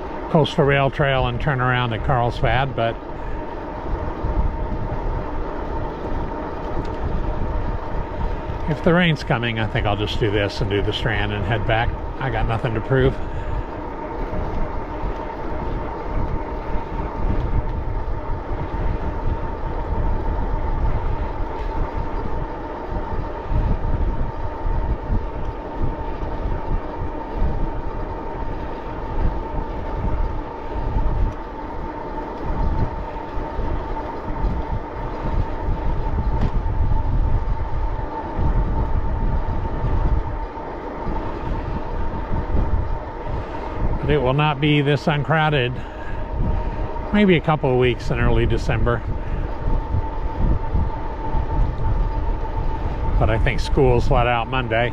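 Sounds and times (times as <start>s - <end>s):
steady high-pitched hum: 0.0s - 54.9s
wind buffeting microphone: 0.0s - 54.9s.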